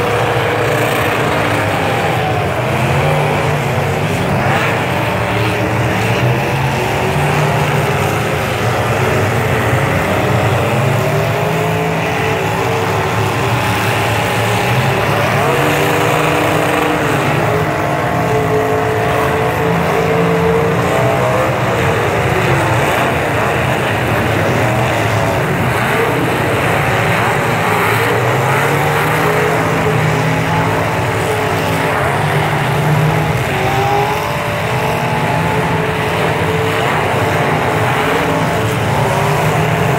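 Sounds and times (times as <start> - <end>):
truck engines revving: 0.0 - 39.9.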